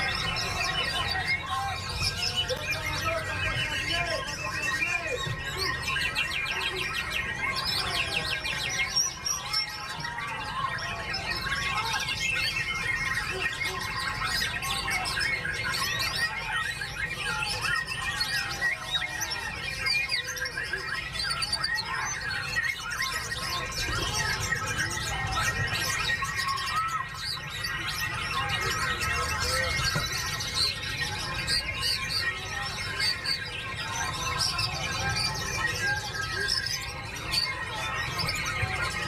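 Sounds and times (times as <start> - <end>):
bird singing whistles and trills: 0.0 - 39.0
other birdsong: 0.0 - 39.0.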